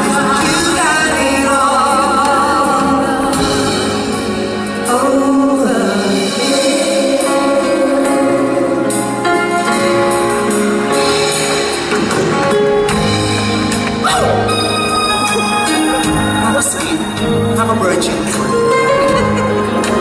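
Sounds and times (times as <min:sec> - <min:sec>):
live band playing held chords: 0:00.0 - 0:20.0.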